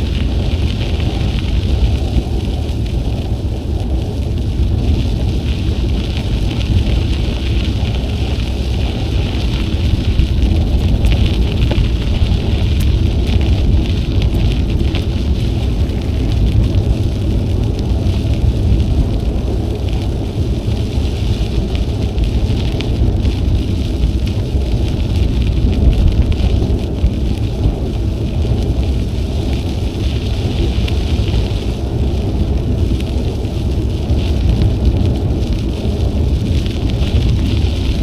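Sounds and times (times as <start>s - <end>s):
bicycle tyres rolling on trail: 0.0s - 38.0s
wind buffeting microphone: 0.0s - 38.0s.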